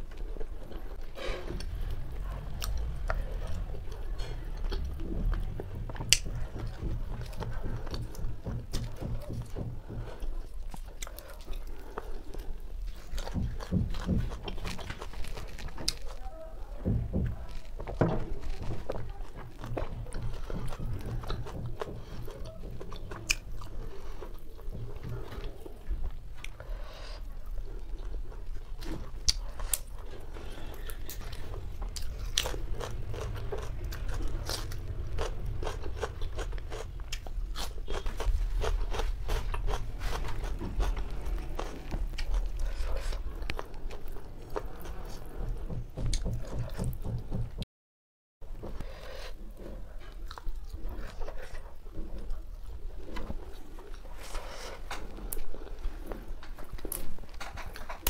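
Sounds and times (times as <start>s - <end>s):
chewing and crunching: 0.0s - 47.2s, 48.7s - 58.0s.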